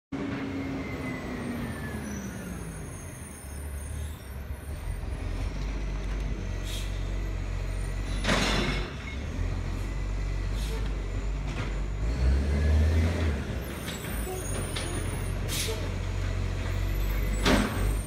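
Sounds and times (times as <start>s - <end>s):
garbage truck engine: 0.1s - 18.0s.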